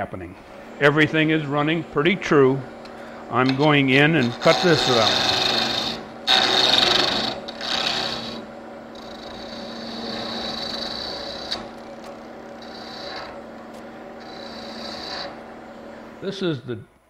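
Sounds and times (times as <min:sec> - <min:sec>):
lathe humming: 0:00.0 - 0:17.0
gouge cutting wood on lathe: 0:00.7 - 0:16.2.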